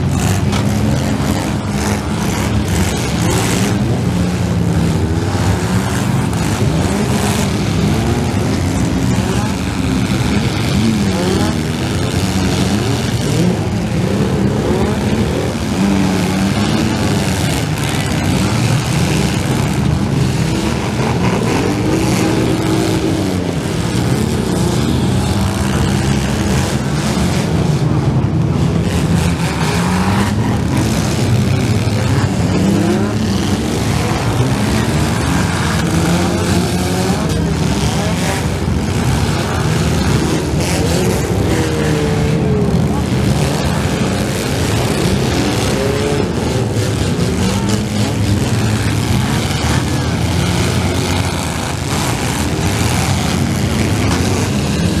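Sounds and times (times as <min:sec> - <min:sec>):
car engines revving hard: 0:00.0 - 0:55.0.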